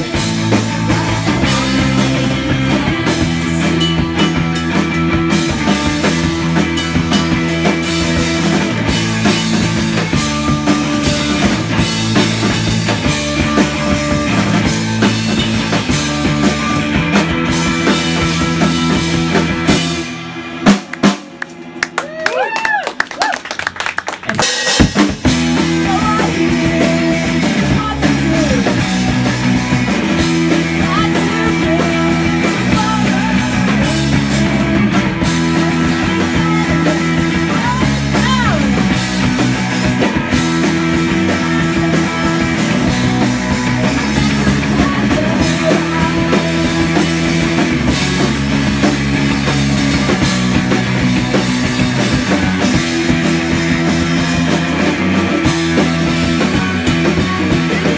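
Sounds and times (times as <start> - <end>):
distorted electric guitar: 0.0 - 22.0, 24.3 - 57.9
bass guitar: 0.0 - 57.9
drum kit: 0.0 - 57.9.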